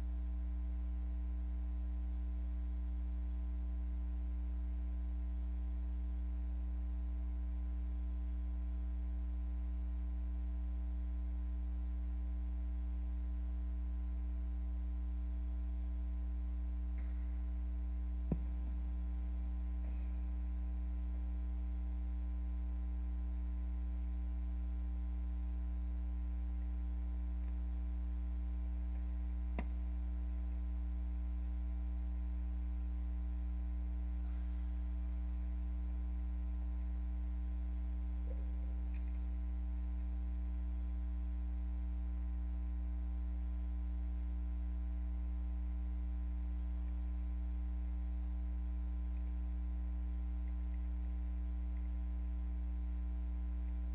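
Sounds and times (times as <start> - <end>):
electrical mains hum: 0.0 - 53.9.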